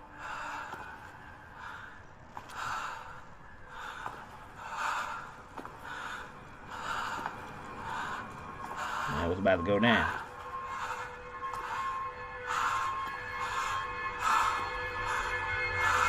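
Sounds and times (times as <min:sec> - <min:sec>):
person breathing heavily: 0:00.0 - 0:09.3, 0:10.2 - 0:16.0.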